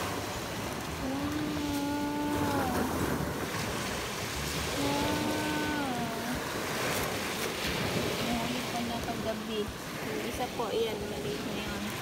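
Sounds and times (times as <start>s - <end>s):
surf on pebble shore: 0.0s - 12.0s.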